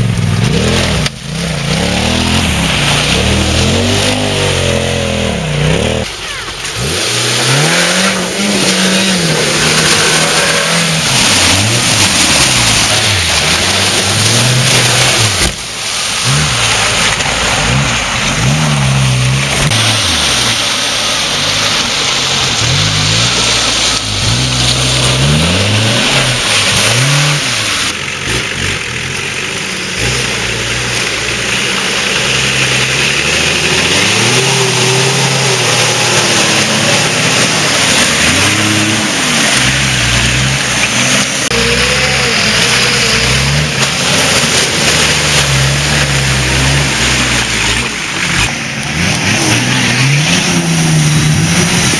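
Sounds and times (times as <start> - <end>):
off-road engines revving: 0.0 - 51.9
vehicles pushing through mud and water: 0.0 - 51.9.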